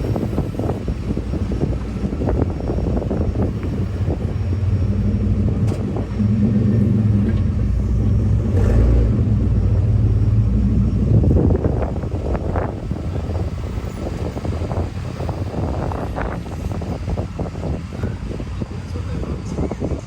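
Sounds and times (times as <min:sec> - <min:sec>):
pickup truck exhaust rumble: 0:00.0 - 0:20.0.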